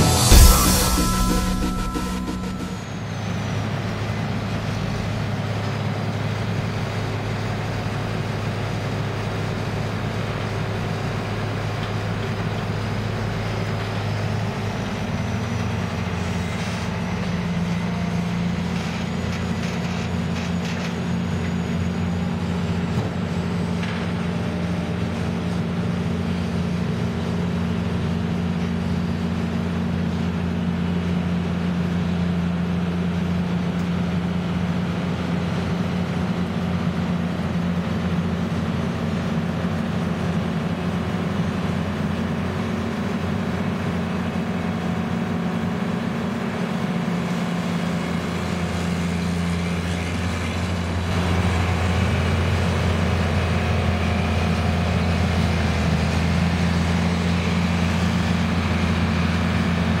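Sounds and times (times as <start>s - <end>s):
large diesel engines humming: 0.0s - 60.0s.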